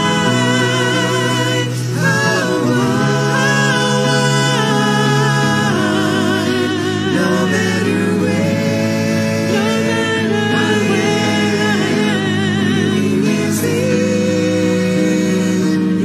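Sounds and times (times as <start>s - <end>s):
women singing in harmony: 0.0s - 16.0s.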